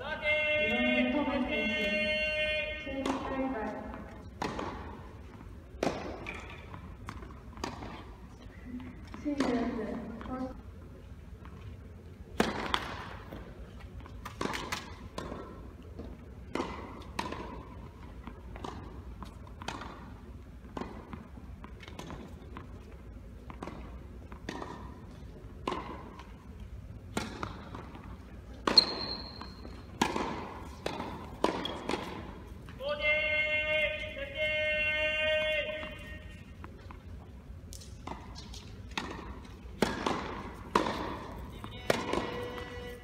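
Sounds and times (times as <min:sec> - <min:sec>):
tennis ball strokes echoing: 0:00.6 - 0:43.0.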